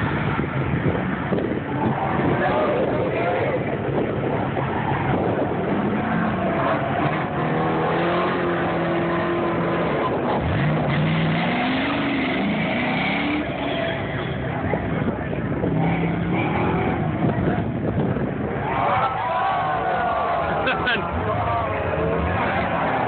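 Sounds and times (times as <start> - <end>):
truck engine revving: 0.0 - 18.6.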